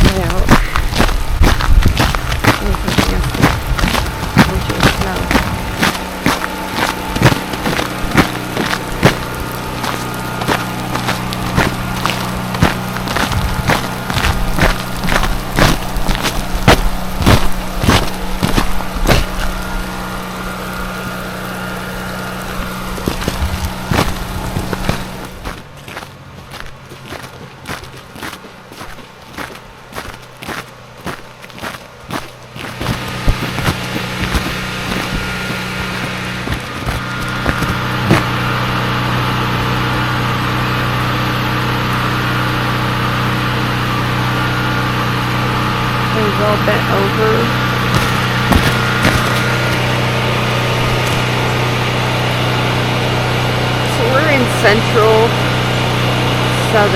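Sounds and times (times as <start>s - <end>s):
footsteps on icy ground: 0.0s - 43.7s, 45.2s - 53.0s, 53.8s - 55.4s, 56.0s - 56.9s
generator engine humming: 0.0s - 56.9s.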